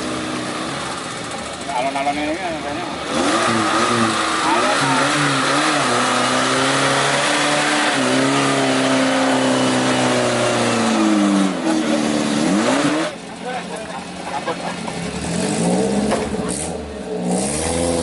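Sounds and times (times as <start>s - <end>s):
jeep engine revving: 0.0s - 18.0s.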